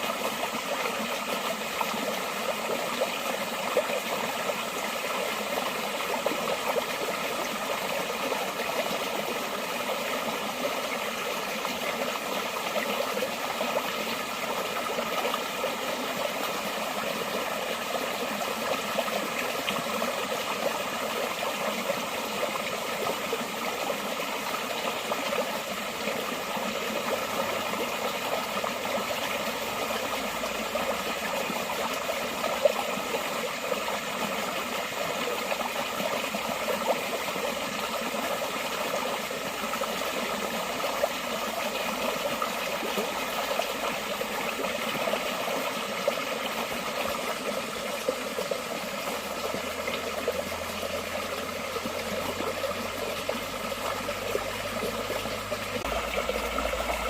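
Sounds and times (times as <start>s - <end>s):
stream water rushing and splashing: 0.0s - 57.0s.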